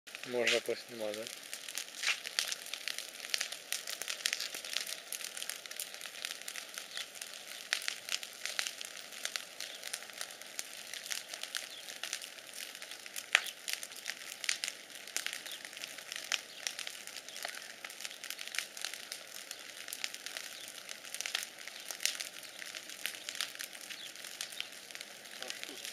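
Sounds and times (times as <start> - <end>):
bonfire crackling and popping: 0.1 - 25.9.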